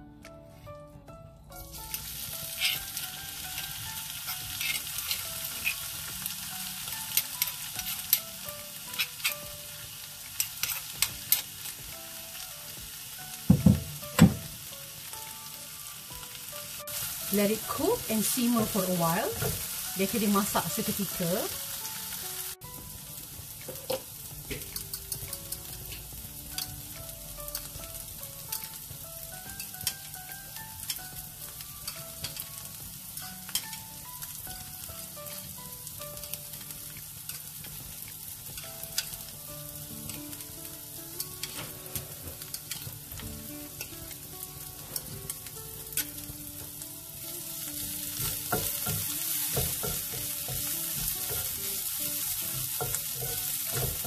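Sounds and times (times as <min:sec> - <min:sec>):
paste sizzling in oil: 0:01.6 - 0:54.0.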